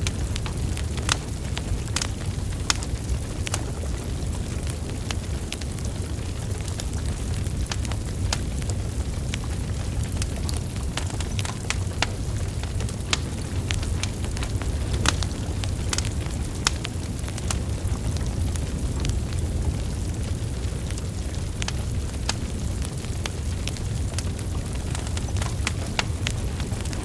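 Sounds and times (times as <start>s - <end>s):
logs crackling and popping: 0.0s - 27.0s
low rumble of flames: 0.0s - 27.0s.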